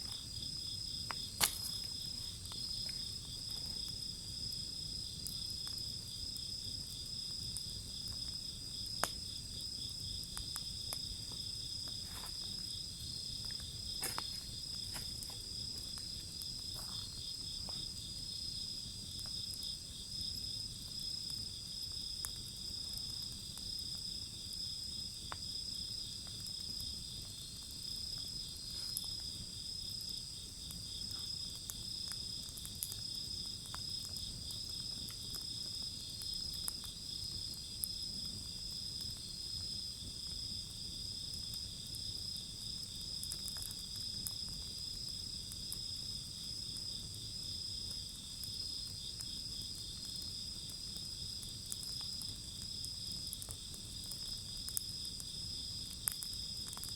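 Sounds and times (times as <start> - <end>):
insects chirping: 0.0 - 56.9
wood fire crackling: 0.0 - 56.9.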